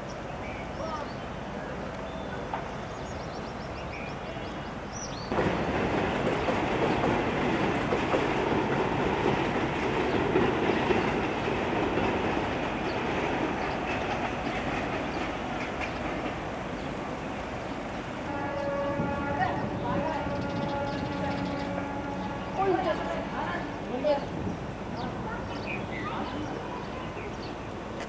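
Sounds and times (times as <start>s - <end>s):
train rumbling on rails: 0.1s - 28.0s.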